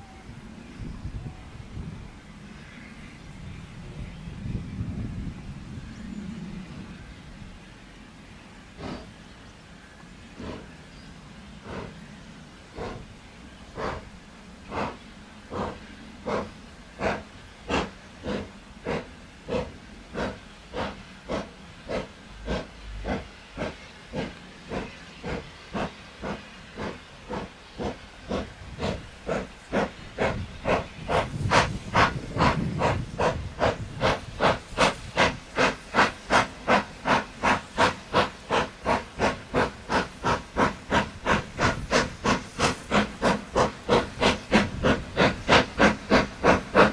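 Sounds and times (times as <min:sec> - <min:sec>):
steam locomotive exhaust chuffing: 0:04.8 - 0:46.9
steam hissing: 0:05.6 - 0:46.9.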